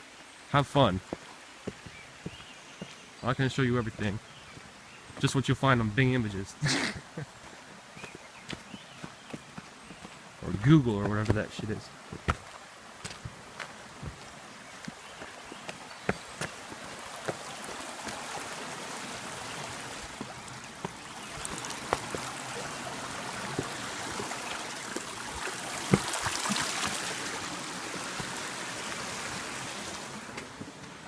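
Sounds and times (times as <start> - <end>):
creek water running: 0.0 - 31.0.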